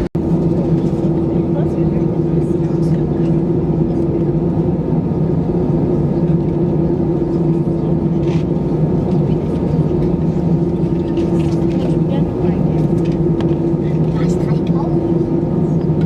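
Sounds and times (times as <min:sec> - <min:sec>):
airplane cabin engine drone: 0:00.0 - 0:16.0
constant low hum: 0:00.0 - 0:16.0.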